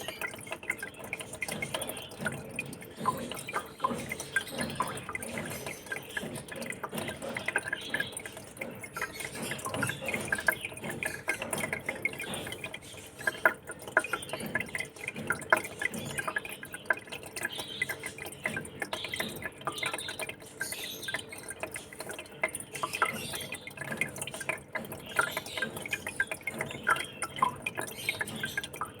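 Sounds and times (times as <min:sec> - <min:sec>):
aquarium water trickling: 0:00.0 - 0:29.0.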